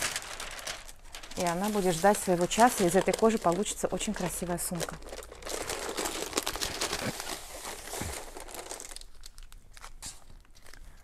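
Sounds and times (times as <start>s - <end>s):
paper rustling and crinkling: 0.0s - 10.8s.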